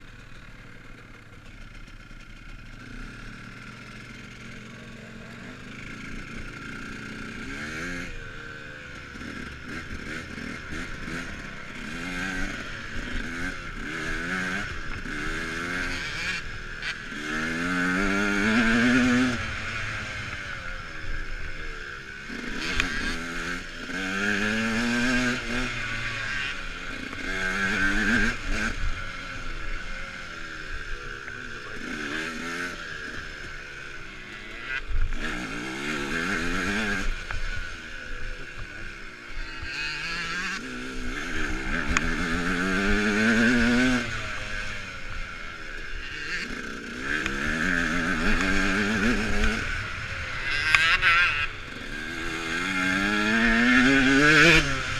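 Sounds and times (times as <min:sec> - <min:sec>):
dirt bike engine accelerating: 0:00.0 - 0:54.9.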